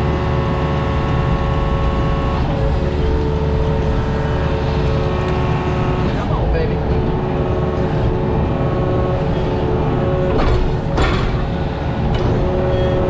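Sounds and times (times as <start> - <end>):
diesel engine droning: 0.0 - 13.0
whining tones: 0.0 - 13.0.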